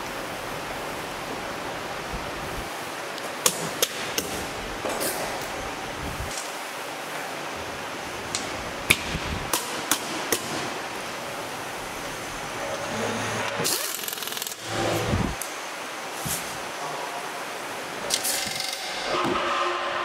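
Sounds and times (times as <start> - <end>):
factory background noise: 0.0 - 20.0.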